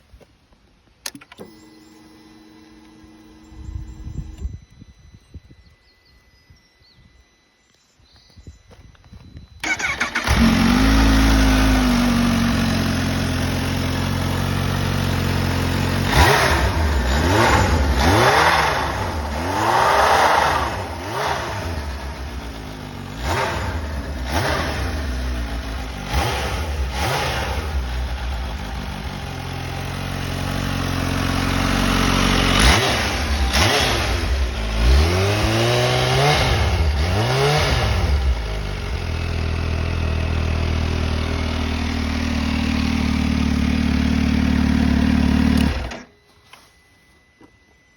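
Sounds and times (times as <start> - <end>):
motorcycle engine idling and revving: 1.1 - 6.2, 8.7 - 46.2.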